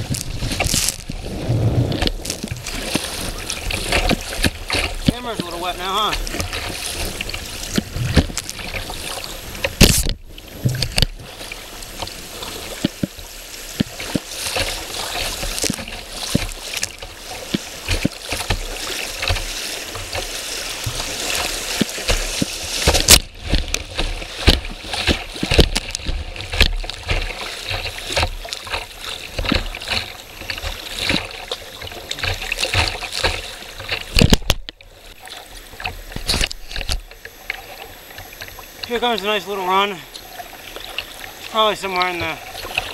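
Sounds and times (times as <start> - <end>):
rapids rushing: 0.0 - 34.4, 37.9 - 42.9
water splashing on boat: 0.0 - 42.9.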